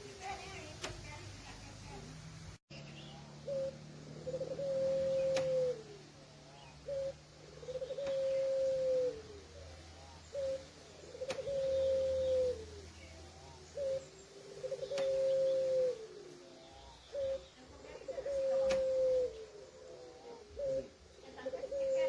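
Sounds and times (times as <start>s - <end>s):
dove cooing: 3.2s - 22.0s.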